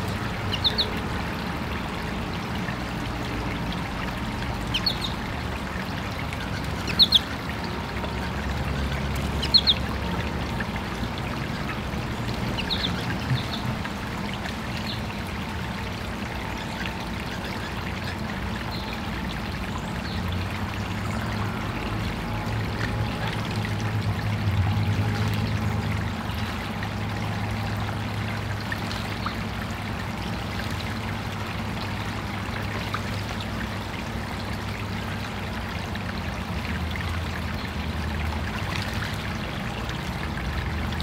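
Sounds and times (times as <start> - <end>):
water trickling in stream: 0.0 - 41.0.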